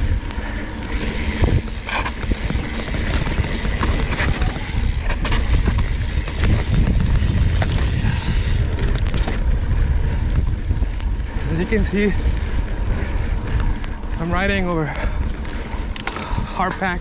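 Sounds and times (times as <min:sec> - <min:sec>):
bike clicks and rattles: 0:00.0 - 0:17.0
bike tyres rolling on dirt: 0:00.0 - 0:17.0
wind rumble on microphone: 0:00.0 - 0:17.0.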